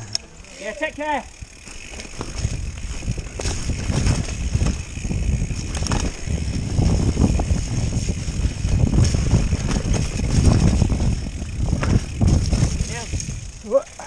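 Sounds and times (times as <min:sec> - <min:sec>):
bike knocking and rattling: 0:00.0 - 0:14.0
bike tyres rumbling: 0:00.0 - 0:14.0.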